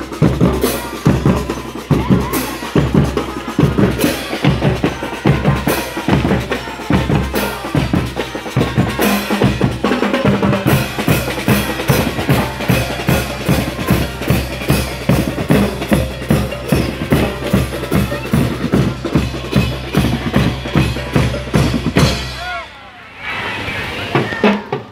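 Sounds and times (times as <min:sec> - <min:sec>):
bass drums: 0:00.0 - 0:22.6
snare drums: 0:00.0 - 0:22.8, 0:24.0 - 0:24.9
cymbals: 0:00.0 - 0:22.9.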